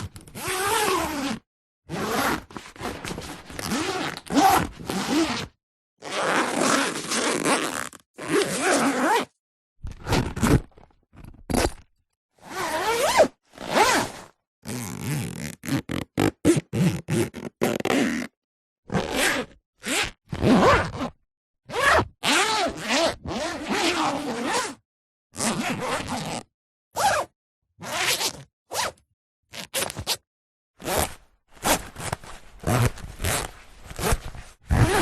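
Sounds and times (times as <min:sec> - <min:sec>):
clothing zippers zipping: 0:00.0 - 0:11.8, 0:12.4 - 0:24.8, 0:25.4 - 0:30.2, 0:30.8 - 0:35.0.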